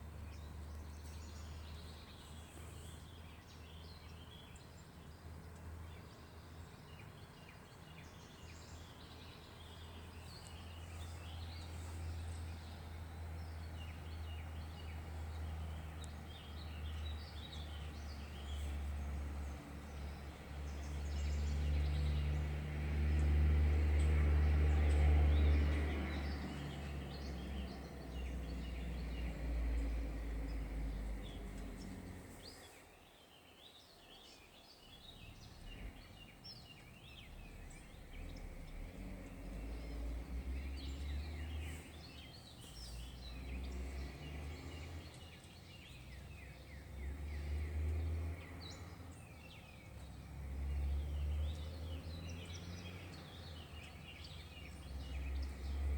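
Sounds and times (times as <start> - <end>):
birds chirping: 0.0 - 55.9
truck engine rumbling: 8.1 - 32.6, 34.8 - 55.9.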